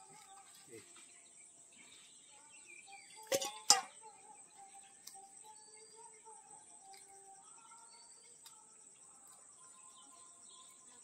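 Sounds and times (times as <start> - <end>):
birds chirping: 0.0 - 11.0
crickets trilling: 0.0 - 11.0.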